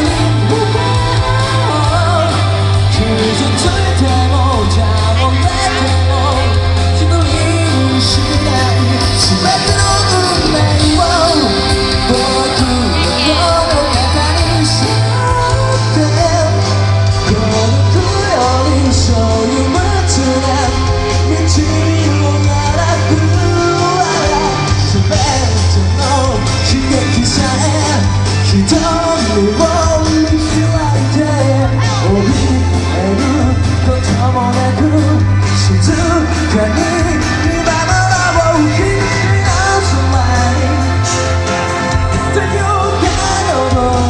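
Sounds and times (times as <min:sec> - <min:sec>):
heavy bass: 0:00.0 - 0:44.0
live pop-rock band: 0:00.0 - 0:44.0
person singing: 0:00.0 - 0:44.0.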